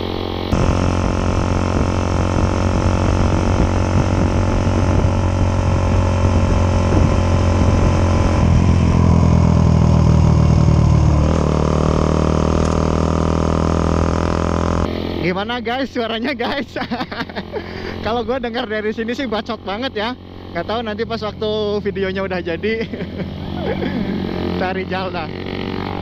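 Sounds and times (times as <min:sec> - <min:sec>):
loud motorcycle engine running: 0:00.0 - 0:16.1, 0:16.7 - 0:26.0.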